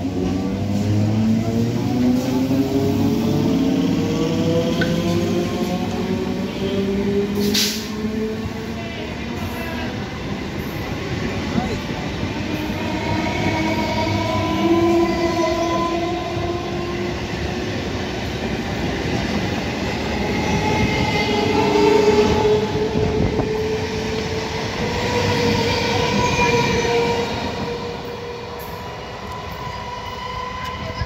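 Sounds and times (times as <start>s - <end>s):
electric train rumbling past: 0.0s - 31.0s.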